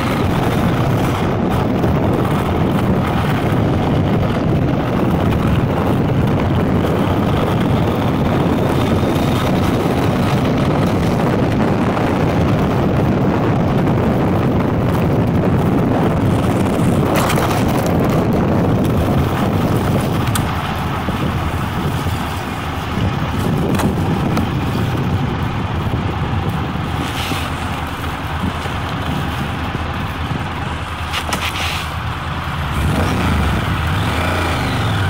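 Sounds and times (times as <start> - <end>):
heavy wind on microphone: 0.0 - 35.0
motorcycle and road noise: 0.0 - 35.0.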